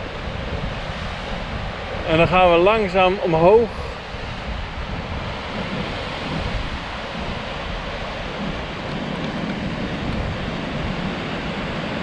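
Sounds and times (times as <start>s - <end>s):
ocean surf on rocks: 0.0s - 12.0s
wind on microphone: 0.0s - 12.0s.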